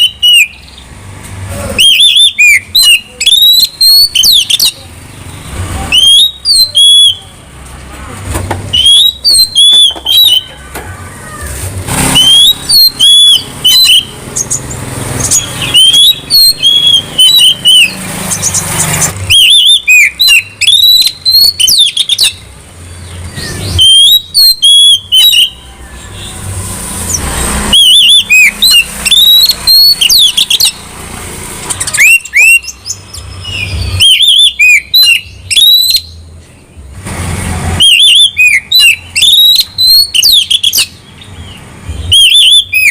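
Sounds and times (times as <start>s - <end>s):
bird singing whistled notes: 0.0s - 0.9s, 1.8s - 4.8s, 5.9s - 7.3s, 8.7s - 10.6s, 12.0s - 18.6s, 19.3s - 26.4s, 27.0s - 30.8s, 31.7s - 36.8s, 37.8s - 42.9s.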